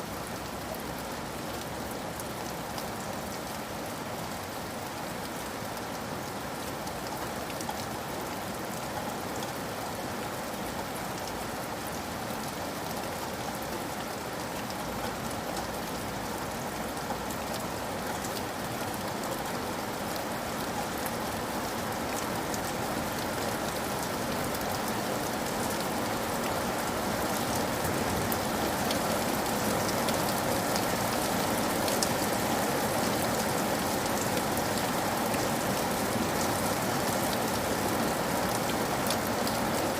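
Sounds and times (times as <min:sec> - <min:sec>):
rain pattering on a roof: 0:00.0 - 0:39.9.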